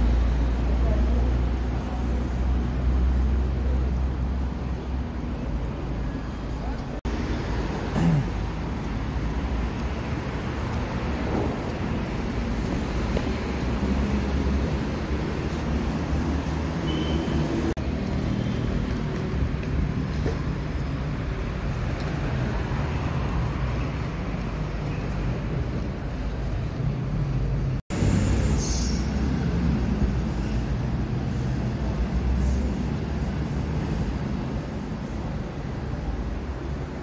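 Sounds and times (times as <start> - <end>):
city street traffic: 0.0 - 37.0.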